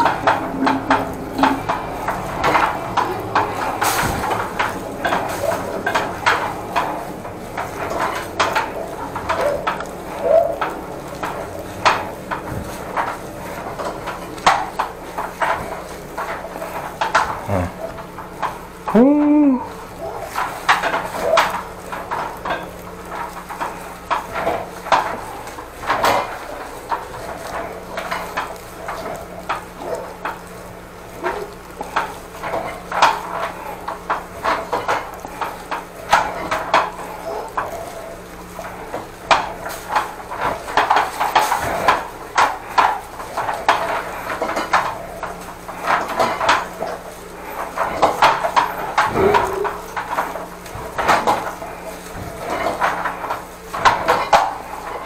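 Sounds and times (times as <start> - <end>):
hard objects clattering: 0.0 - 55.0.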